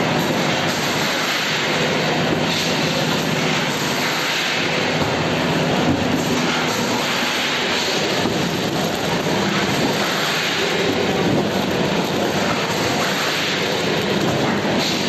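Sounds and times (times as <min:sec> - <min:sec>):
packaging machinery running: 0:00.0 - 0:15.0.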